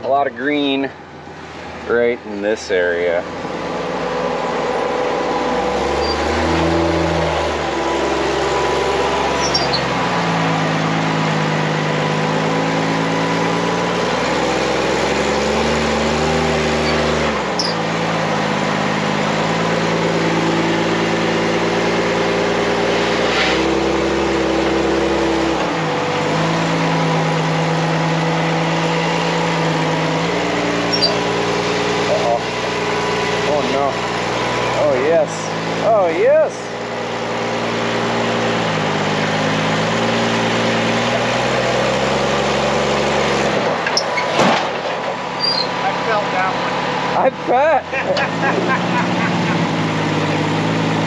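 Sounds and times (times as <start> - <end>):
buggy engine revving under load: 0.8 - 51.0.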